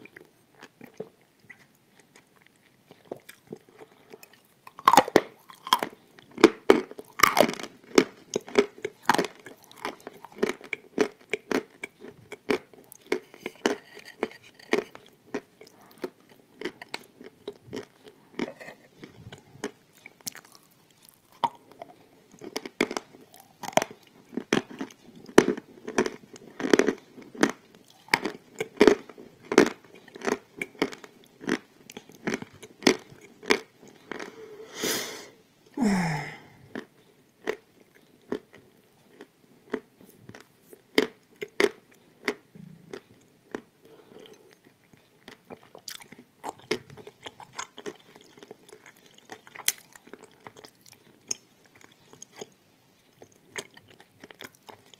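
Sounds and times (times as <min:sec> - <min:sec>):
crunchy chewing of clay: 0:00.0 - 0:34.5, 0:36.4 - 0:54.9.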